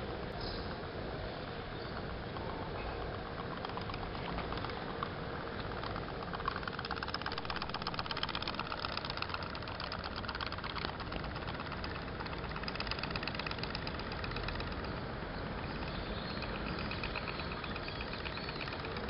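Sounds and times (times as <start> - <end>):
toy steam boat engine putt-putting: 1.7 - 19.0.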